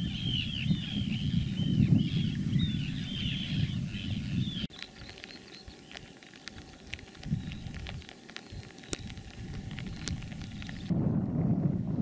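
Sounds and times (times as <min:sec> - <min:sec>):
birds calling rapidly: 0:00.0 - 0:10.9
low wind rumble: 0:00.0 - 0:12.0.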